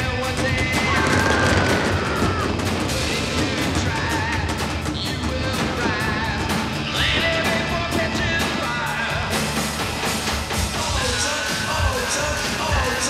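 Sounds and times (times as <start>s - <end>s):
fireworks crackling and popping: 0.0s - 13.0s
soundtrack music with singing: 0.0s - 13.0s.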